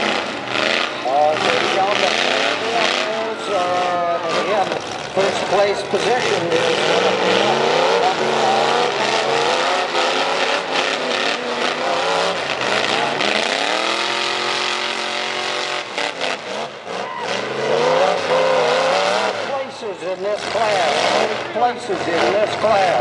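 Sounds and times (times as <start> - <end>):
pickup truck engines revving: 0.0 - 23.0.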